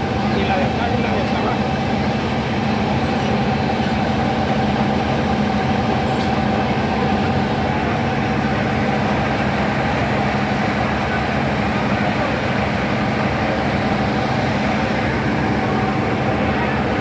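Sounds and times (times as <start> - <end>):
heavy engine humming: 0.0 - 17.0.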